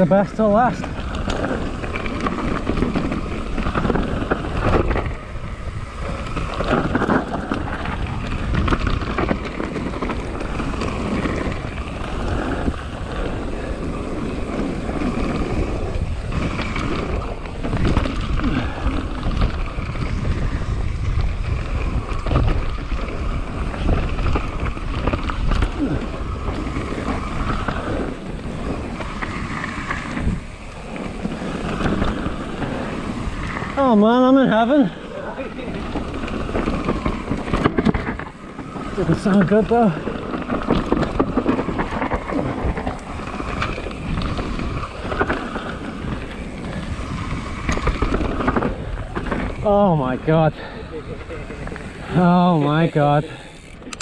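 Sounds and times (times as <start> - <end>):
tyres rumbling on loose dirt: 0.0 - 54.0
wind buffeting microphone: 0.0 - 54.0
bike clicks and knocks: 0.7 - 54.0.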